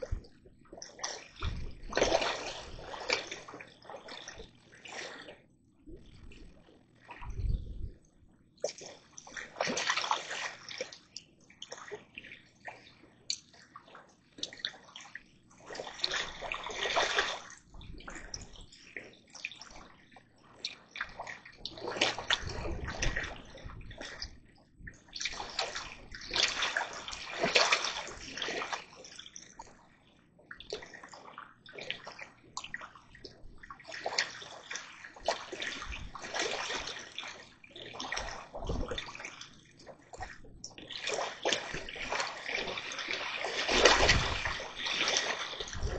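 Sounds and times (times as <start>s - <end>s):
water splashing and sloshing: 0.0s - 45.9s.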